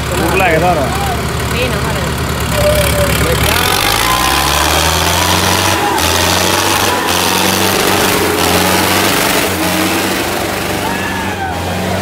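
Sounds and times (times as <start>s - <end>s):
tractor diesel engine revving high: 0.0s - 12.0s.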